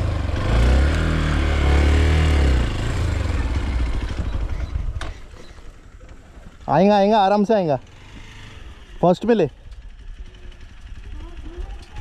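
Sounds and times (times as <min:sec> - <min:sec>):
motorcycle engine revving: 0:00.0 - 0:05.9, 0:06.6 - 0:12.0.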